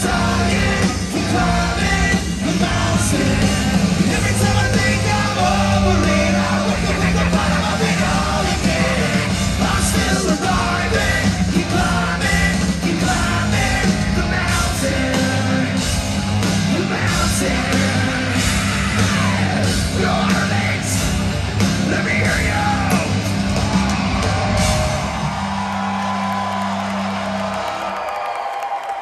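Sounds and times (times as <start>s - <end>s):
live hard rock band: 0.0s - 27.4s
yelled vocals: 0.0s - 27.6s.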